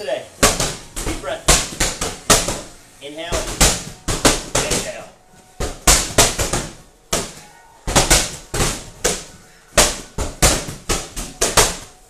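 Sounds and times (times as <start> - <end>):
medicine ball slamming on rubber floor: 0.4 - 2.7, 3.3 - 5.0, 5.6 - 11.9.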